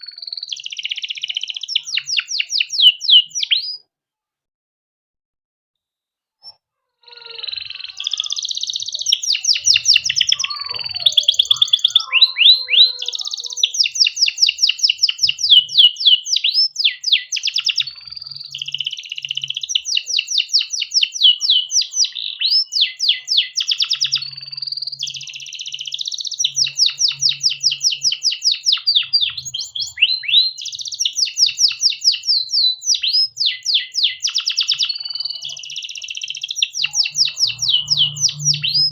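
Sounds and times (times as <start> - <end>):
canary singing trills: 0.0 - 3.9, 6.4 - 38.9.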